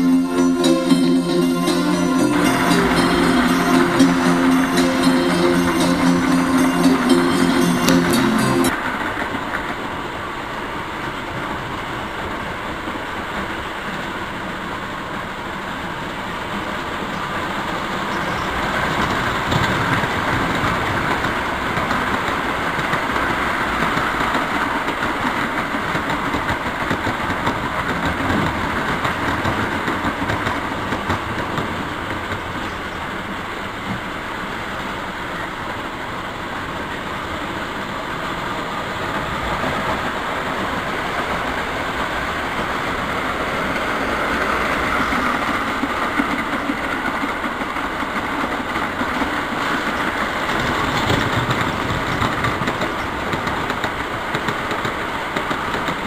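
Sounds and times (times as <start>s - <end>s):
model train rumbling on track: 0.0s - 56.0s.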